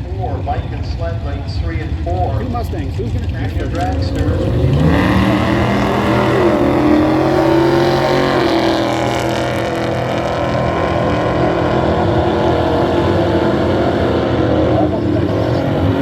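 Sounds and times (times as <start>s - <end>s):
racing car engine running: 0.0s - 16.0s.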